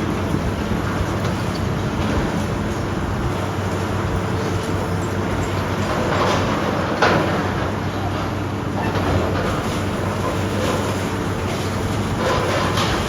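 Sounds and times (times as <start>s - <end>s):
demolition machinery diesel drone: 0.0s - 13.0s.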